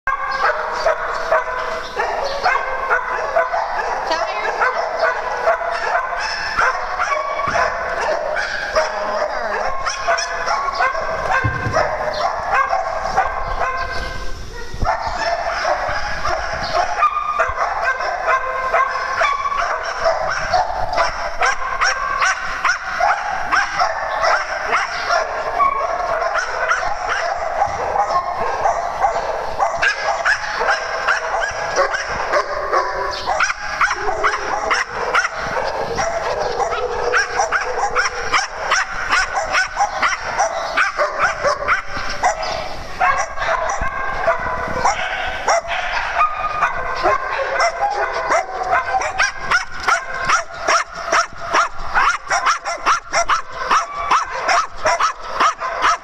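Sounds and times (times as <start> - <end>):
many dogs barking: 0.0 - 56.0.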